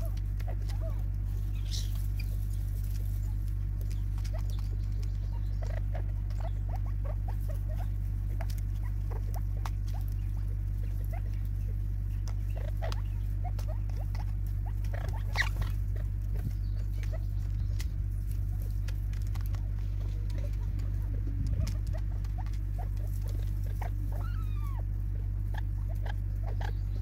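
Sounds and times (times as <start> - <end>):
birds pecking plastic tub: 0.0 - 27.0
low hum: 0.0 - 27.0.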